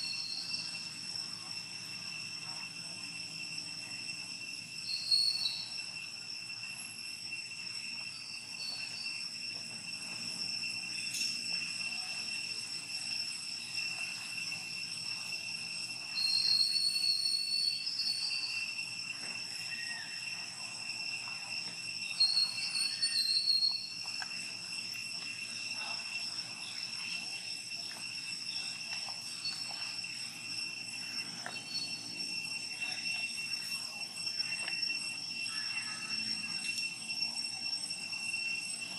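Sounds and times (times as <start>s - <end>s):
high insect calls: 0.0s - 38.9s
insects droning in trees: 0.0s - 38.9s.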